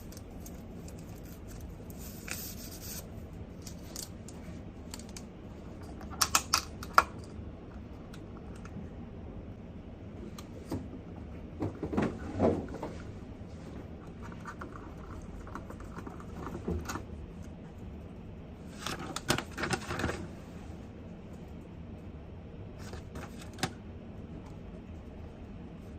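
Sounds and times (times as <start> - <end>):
low room noise: 0.0 - 25.9.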